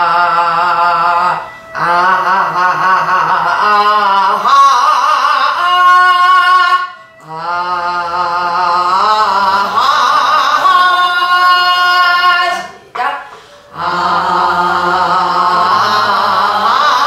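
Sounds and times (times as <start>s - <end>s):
woman singing long vowel tones: 0.0s - 17.0s.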